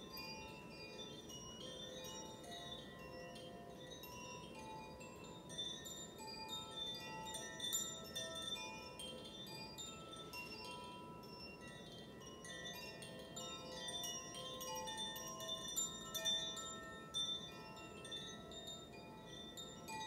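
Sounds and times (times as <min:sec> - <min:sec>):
low steady background noise: 0:00.0 - 0:20.0
wind chimes ringing: 0:00.0 - 0:20.0.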